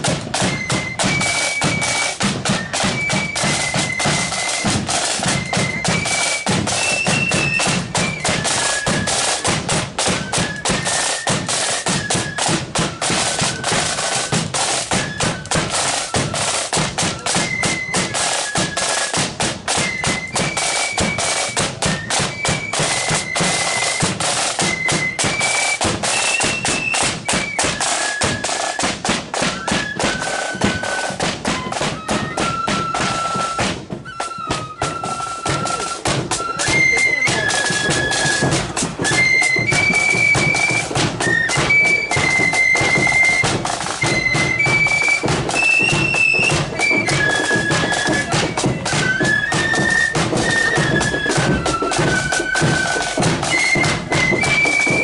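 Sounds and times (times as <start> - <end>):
flute melody: 0.0 - 55.0
snare drum beats: 0.0 - 55.0.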